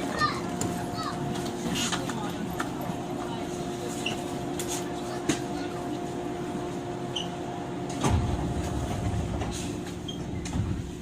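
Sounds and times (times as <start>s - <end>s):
train car hum: 0.0s - 11.0s.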